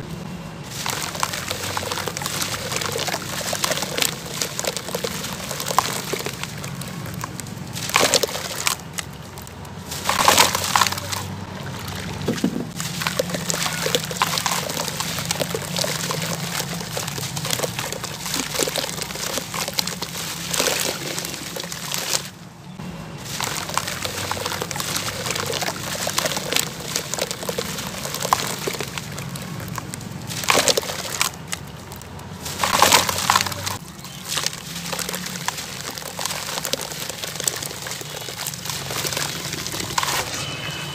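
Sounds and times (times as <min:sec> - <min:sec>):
water sloshing and dripping: 0:00.0 - 0:40.9
wet sand-cement crumbling by hand: 0:00.7 - 0:22.3, 0:23.2 - 0:40.6.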